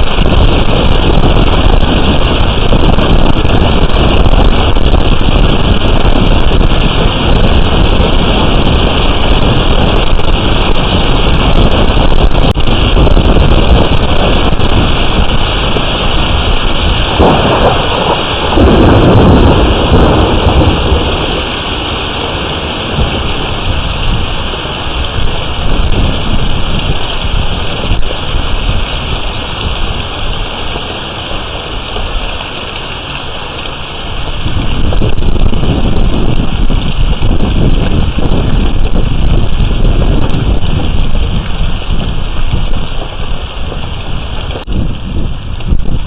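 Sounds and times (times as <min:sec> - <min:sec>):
hailstones ticking: 0:00.0 - 0:46.0
rain and hail pelting down: 0:00.0 - 0:46.0
wind rushing over microphone: 0:00.0 - 0:46.0.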